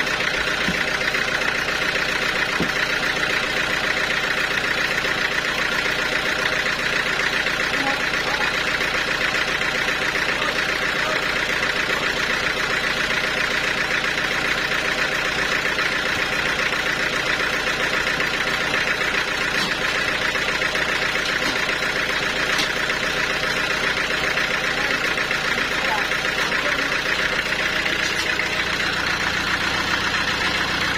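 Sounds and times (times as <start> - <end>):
sawmill saw droning: 0.0 - 30.9.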